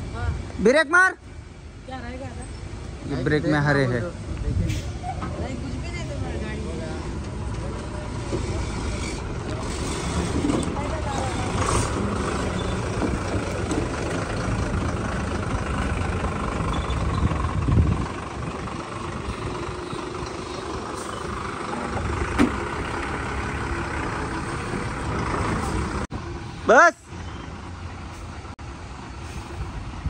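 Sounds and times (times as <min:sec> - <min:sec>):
diesel truck engine running: 0:01.2 - 0:30.0.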